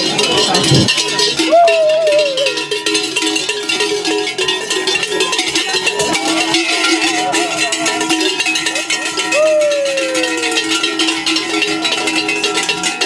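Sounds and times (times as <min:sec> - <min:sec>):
cowbells and hand bells clanging: 0:00.0 - 0:13.0.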